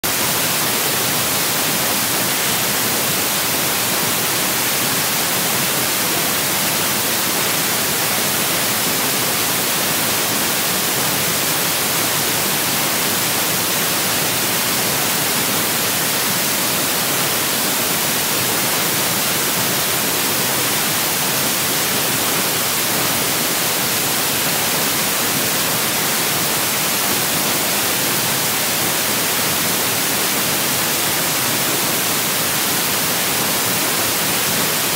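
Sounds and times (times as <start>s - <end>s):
loud static hiss: 0.0s - 34.9s.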